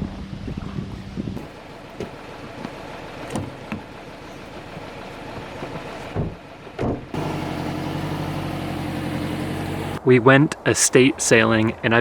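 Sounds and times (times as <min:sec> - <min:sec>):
engine hum: 0:00.0 - 0:10.0
wind: 0:00.0 - 0:12.0.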